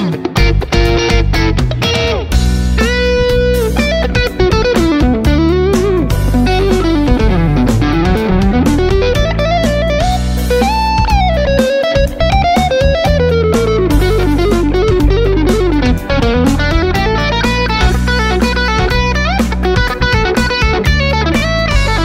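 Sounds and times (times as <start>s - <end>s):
bass and drums backing track: 0.0s - 22.0s
electric guitar lead: 0.0s - 22.0s.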